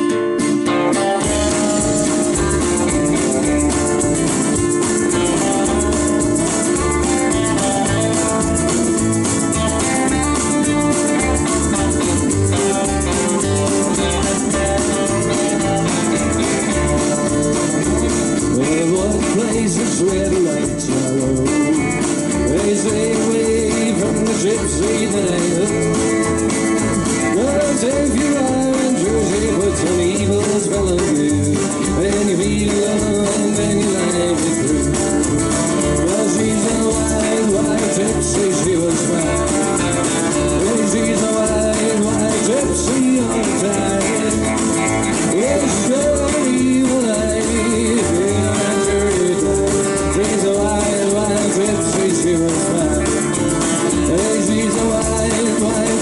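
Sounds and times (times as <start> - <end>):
rockabilly band playing: 0.0 - 56.0
upright bass thumping: 0.0 - 56.0
man singing: 1.1 - 56.0.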